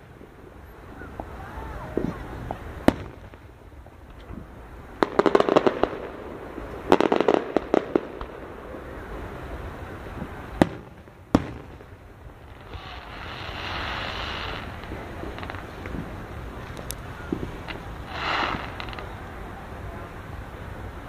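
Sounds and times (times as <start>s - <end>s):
firework bangs: 0.0s - 21.0s
firework rushing hiss: 0.0s - 21.0s
fireworks crackling pops: 0.0s - 21.0s.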